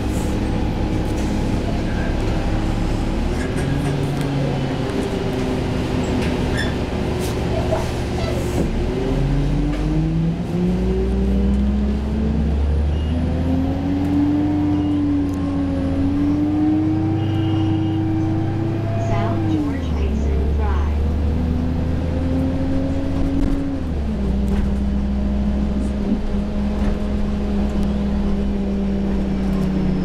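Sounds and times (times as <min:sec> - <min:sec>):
bus engine accelerating: 0:00.0 - 0:30.0.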